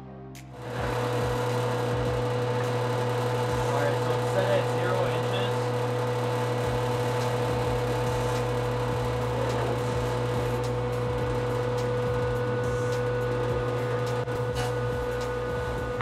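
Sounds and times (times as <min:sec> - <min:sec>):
low mechanical hum: 0:00.4 - 0:16.0.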